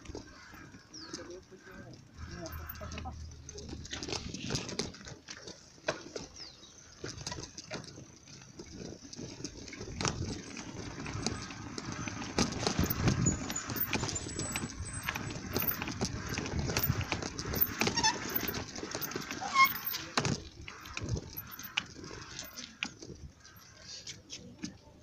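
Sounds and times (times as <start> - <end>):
bicycle rattling over cobblestones: 0.0 - 25.0.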